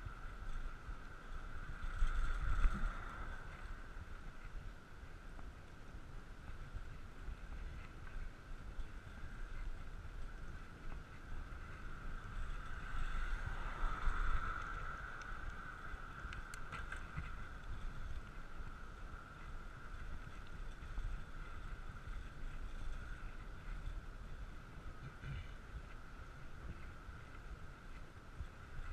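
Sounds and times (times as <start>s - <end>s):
bicycle tyres rolling hum: 0.0s - 28.9s
wind rumbling on microphone: 0.0s - 28.9s.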